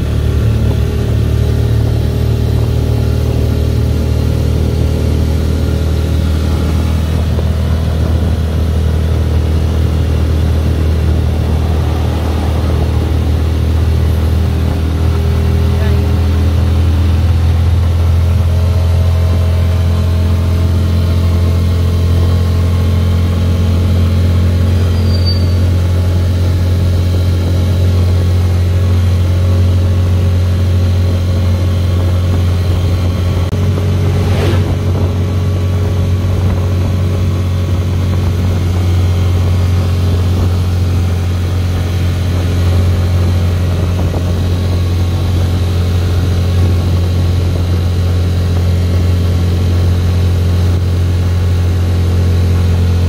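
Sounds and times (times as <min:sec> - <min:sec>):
small motorcycle engine running: 0:00.0 - 0:53.0.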